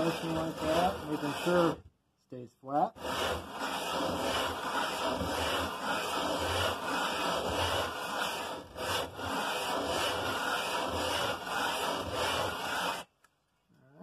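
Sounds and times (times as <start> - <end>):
metal block scraping on sandpaper: 0.0 - 1.8, 3.0 - 13.1.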